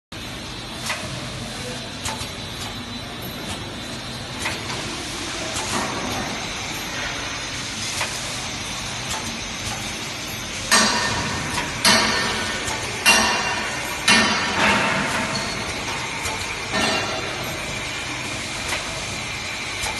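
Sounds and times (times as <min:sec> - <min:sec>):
machine humming: 0:00.2 - 0:19.9.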